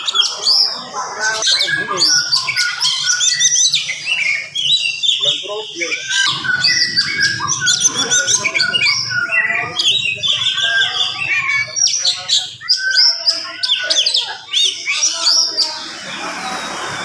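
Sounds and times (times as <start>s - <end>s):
bird singing fast chirps and trills: 0.0s - 17.0s.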